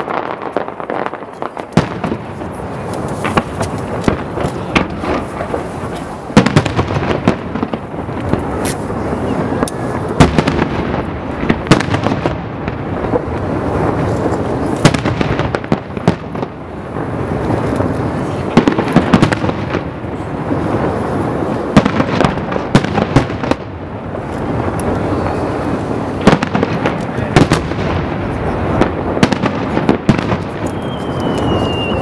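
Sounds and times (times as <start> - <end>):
firework shells bursting: 0.0 - 32.0.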